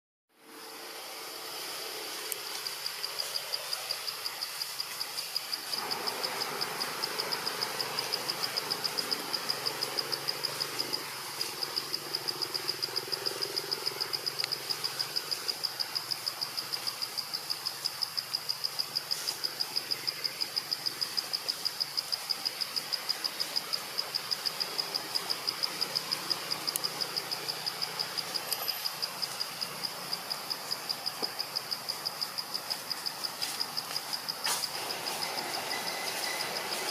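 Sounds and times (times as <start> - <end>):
insect trilling: 0.6 - 36.9.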